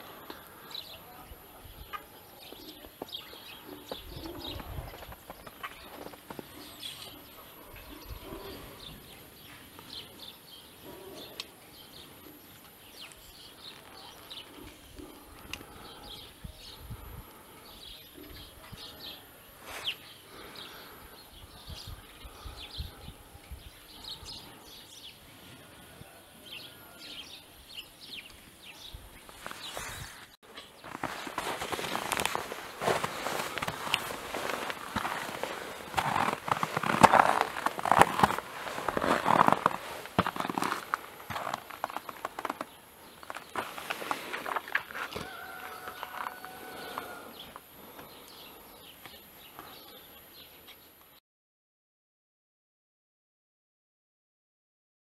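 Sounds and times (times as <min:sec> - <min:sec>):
small birds chirping: 0:00.0 - 0:51.2.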